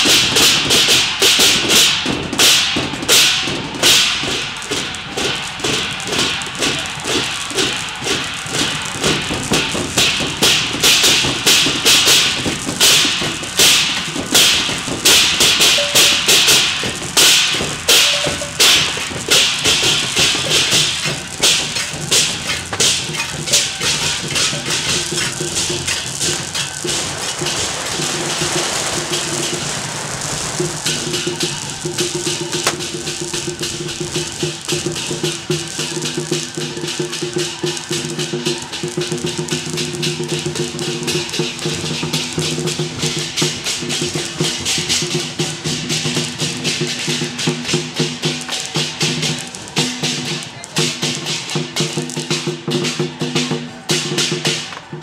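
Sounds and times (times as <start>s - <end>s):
cymbals crashing: 0.0s - 54.8s.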